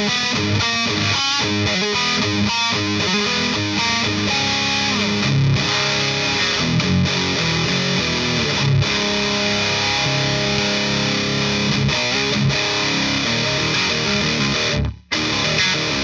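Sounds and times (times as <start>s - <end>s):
distorted electric guitar: 0.0s - 16.0s.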